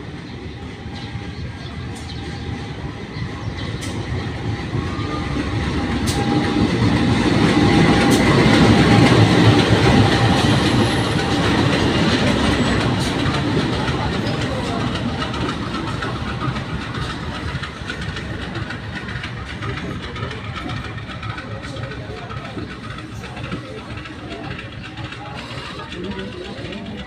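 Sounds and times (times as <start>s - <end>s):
train rumbling on rails: 0.0s - 27.0s
wheels clicking over track: 3.7s - 27.0s.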